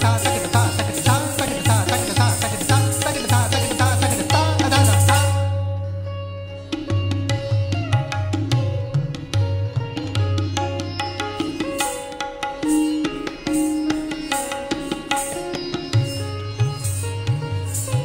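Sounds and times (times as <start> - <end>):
hand drums: 0.0 - 5.5, 6.7 - 18.0
plucked string instrument: 0.0 - 18.0.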